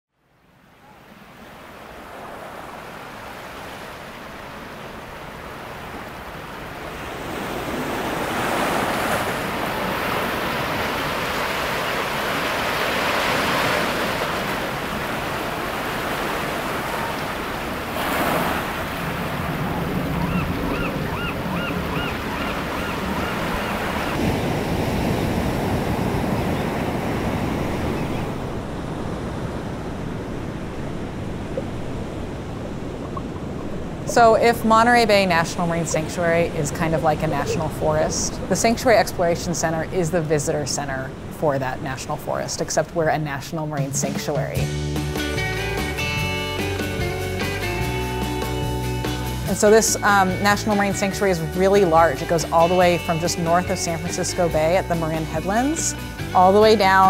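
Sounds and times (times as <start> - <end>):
ocean surf breaking: 0.5 - 57.0.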